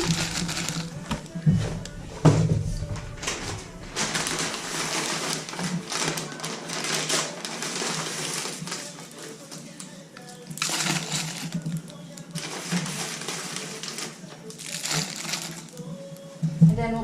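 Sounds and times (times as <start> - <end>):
candy clattering into bowl: 0.0 - 2.0, 2.9 - 15.9
candy wrapper rustling: 0.0 - 2.1, 2.8 - 16.3.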